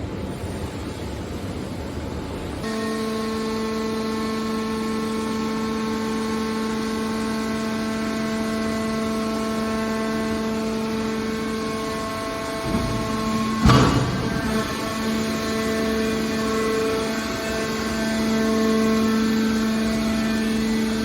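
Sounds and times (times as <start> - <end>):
baler machine humming: 2.6 - 21.0.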